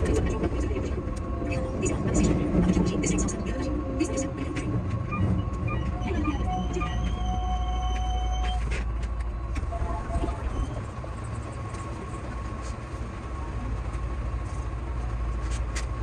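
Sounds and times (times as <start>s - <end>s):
train cab rumble and hum: 0.0s - 16.0s.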